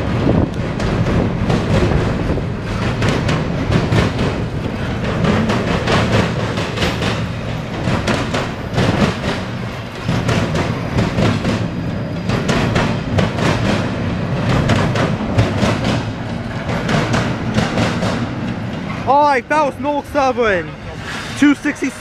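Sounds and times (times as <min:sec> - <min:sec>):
train wheels clicking over rail joints: 0:00.0 - 0:20.3
low train rumble: 0:00.0 - 0:22.0.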